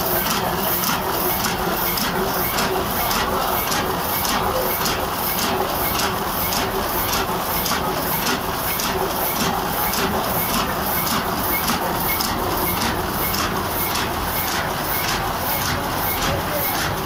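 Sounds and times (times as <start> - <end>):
printing press clattering: 0.0 - 17.0.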